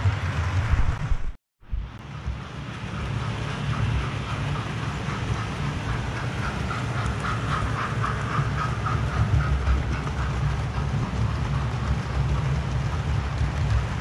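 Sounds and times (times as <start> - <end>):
model train wheels and motors rumble: 0.0 - 14.0
rapid rhythmic clicking: 2.0 - 14.0.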